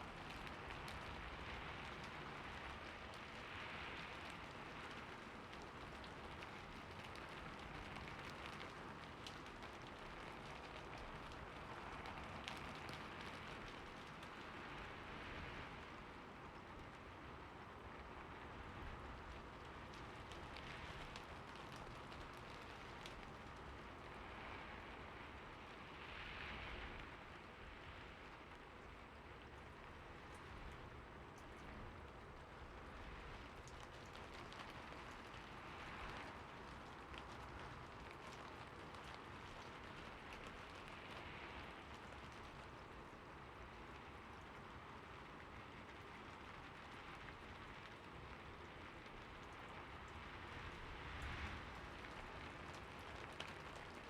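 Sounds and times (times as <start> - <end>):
raindrops ticking: 0.0 - 15.1, 18.6 - 24.4, 28.5 - 54.0
steady rain hiss: 0.0 - 54.0.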